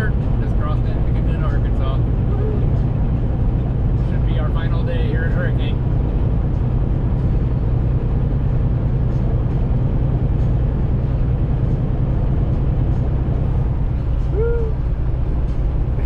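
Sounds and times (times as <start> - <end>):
diesel engine drone: 0.0 - 16.0
road and tyre noise: 0.0 - 16.0.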